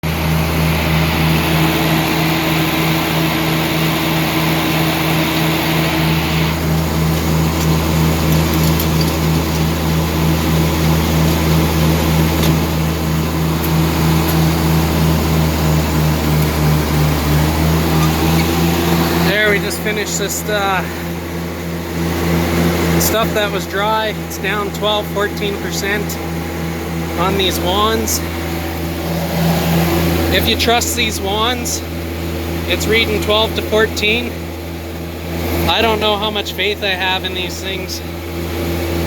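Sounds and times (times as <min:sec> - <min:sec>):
tractor engine pulsing drone: 0:00.0 - 0:39.0.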